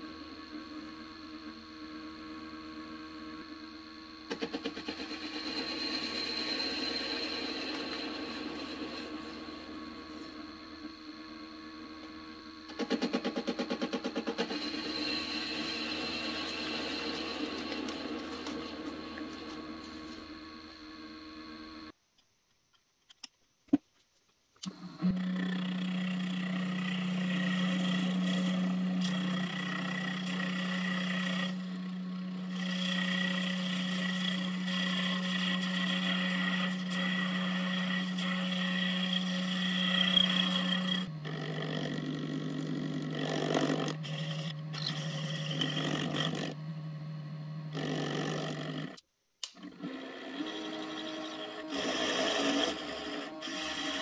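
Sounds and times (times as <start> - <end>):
lathe motor hum: 0.0 - 21.9, 24.6 - 54.0.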